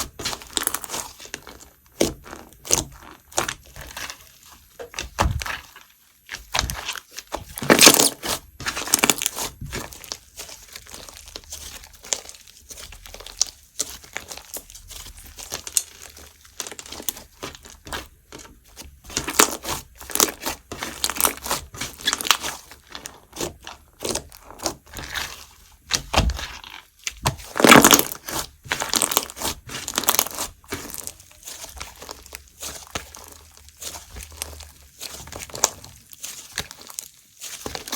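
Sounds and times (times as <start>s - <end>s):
slime crackling and popping: 0.0s - 37.9s.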